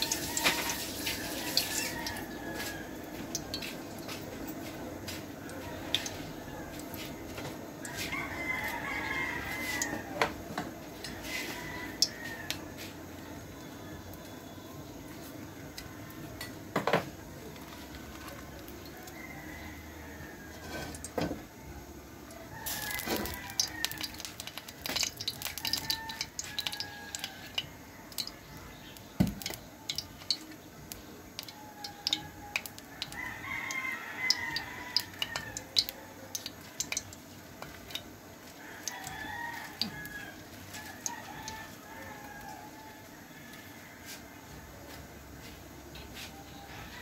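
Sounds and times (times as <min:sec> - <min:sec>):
rooster crowing: 0:00.0 - 0:14.8, 0:15.8 - 0:47.0.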